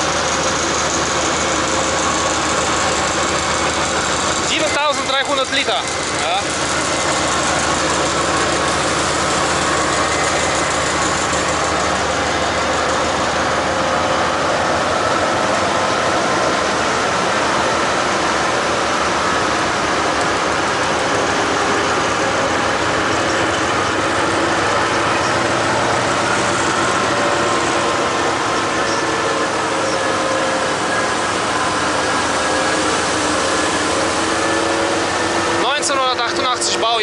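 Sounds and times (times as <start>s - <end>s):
locomotive running: 0.0s - 37.0s.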